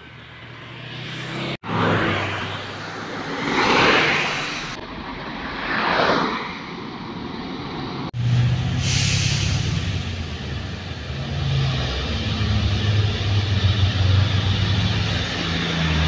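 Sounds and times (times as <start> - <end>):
vehicles passing close by: 0.0 - 16.0.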